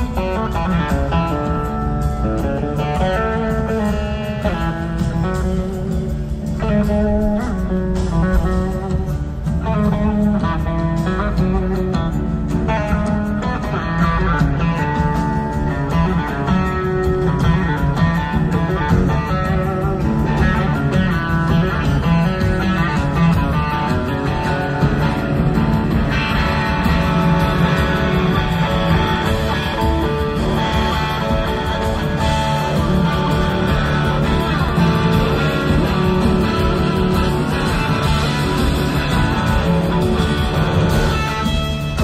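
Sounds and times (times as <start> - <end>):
blues-rock band playing: 0.0 - 42.0
electric slide guitar: 0.0 - 42.0.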